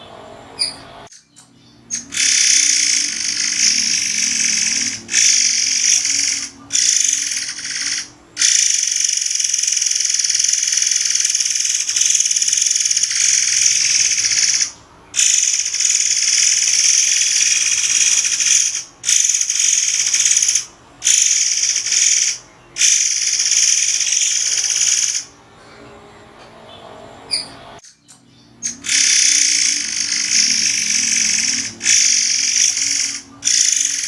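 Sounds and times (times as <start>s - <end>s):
bird singing shrill hissing song: 0.5s - 25.3s, 27.3s - 34.0s.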